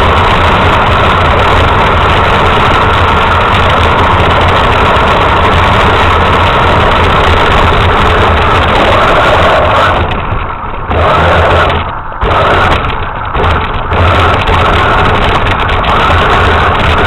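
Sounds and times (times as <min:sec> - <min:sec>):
toy truck motor running: 0:00.0 - 0:17.0.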